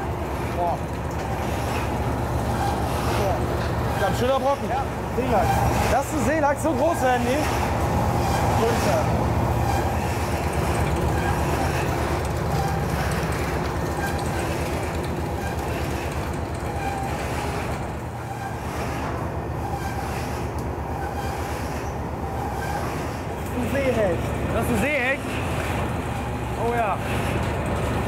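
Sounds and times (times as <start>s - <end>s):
processing machinery rattling clatter: 0.0s - 28.0s.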